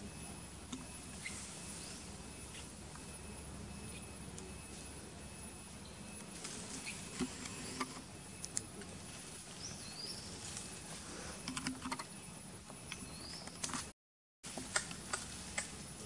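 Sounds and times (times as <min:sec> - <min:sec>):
insect drone: 0:00.0 - 0:13.4.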